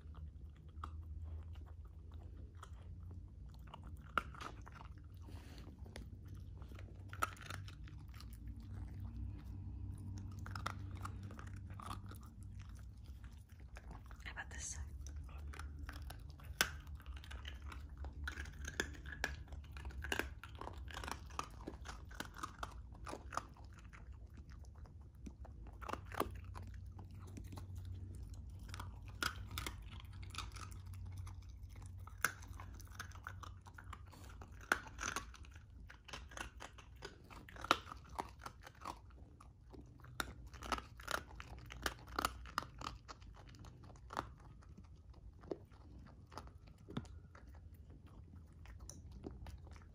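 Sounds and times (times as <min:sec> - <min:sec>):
puppy chewing crunchy biscuit: 0:00.0 - 0:49.9.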